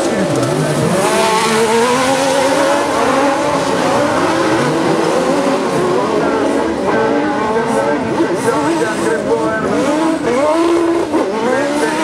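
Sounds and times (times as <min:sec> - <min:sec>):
buggy engines revving: 0:00.0 - 0:12.0.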